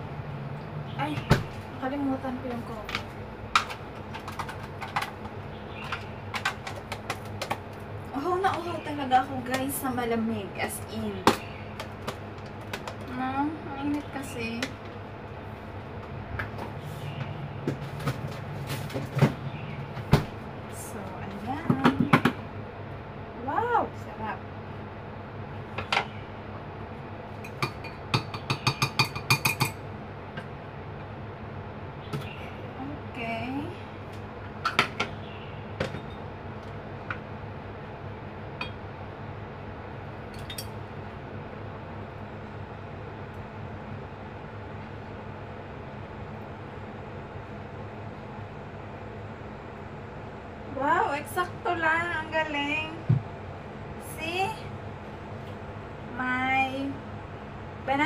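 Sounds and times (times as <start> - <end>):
fridge low hum: 0.0 - 58.0.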